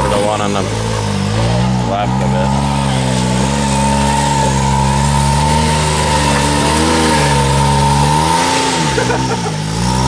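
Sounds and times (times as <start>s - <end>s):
utility vehicle engine running: 0.0s - 10.0s.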